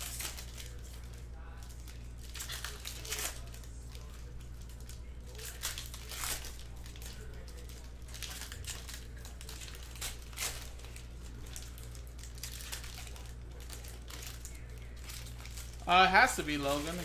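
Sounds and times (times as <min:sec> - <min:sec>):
plastic wrapper crinkling and tearing: 0:00.0 - 0:17.0
steady low hum: 0:00.0 - 0:17.0.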